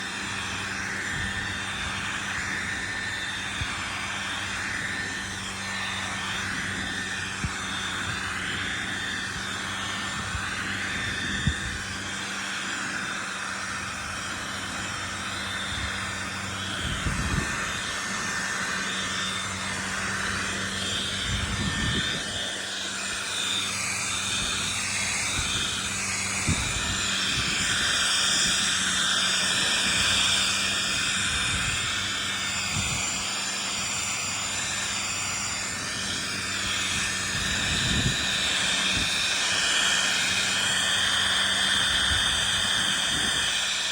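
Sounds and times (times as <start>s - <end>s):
hair dryer blowing: 0.0s - 43.9s.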